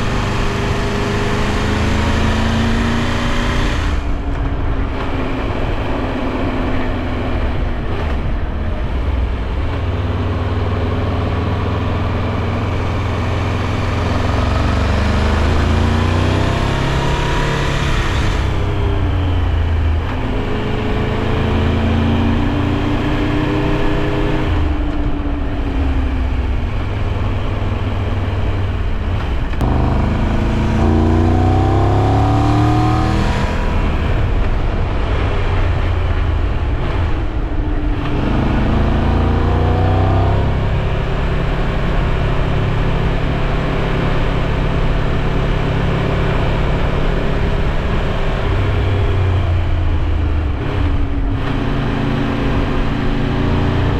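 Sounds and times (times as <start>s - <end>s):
motorcycle engine accelerating: 0.0s - 53.9s
wind and road noise: 0.0s - 53.9s.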